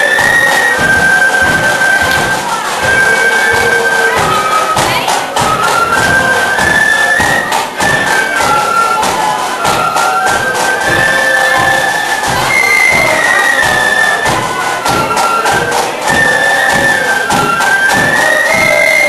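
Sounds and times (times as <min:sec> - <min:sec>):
bass drum: 0:00.0 - 0:19.0
flutes playing in unison: 0:00.0 - 0:19.0
side drums: 0:00.0 - 0:19.0.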